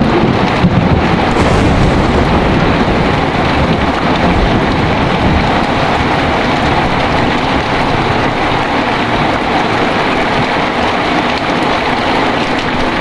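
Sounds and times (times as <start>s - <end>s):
heavy rain pouring: 0.0s - 13.0s
low thunder rumble: 0.0s - 13.0s.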